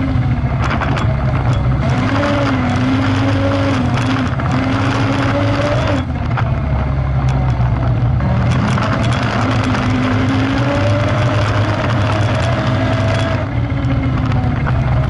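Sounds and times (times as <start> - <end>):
off-road engine under load: 0.0 - 15.0.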